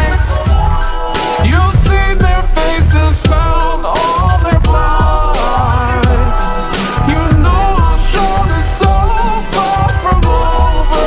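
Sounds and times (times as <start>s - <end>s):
hip-hop song with heavy bass beat: 0.0s - 11.0s
sung vocal: 0.0s - 11.0s.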